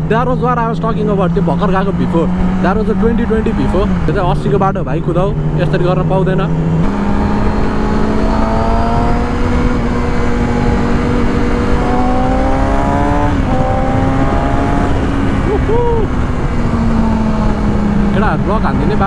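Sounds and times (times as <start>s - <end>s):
motorcycle engine cruising: 0.0s - 19.0s
wind rumble on microphone: 0.0s - 19.0s.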